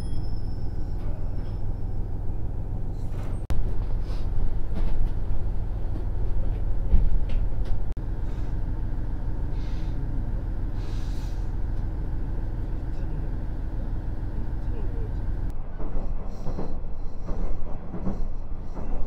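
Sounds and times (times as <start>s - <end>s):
diesel railcar engine rumble: 0.0s - 19.0s.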